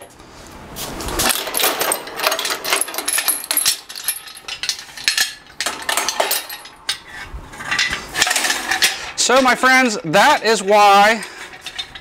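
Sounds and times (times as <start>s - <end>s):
steel chain clinking and rattling: 1.2s - 12.0s.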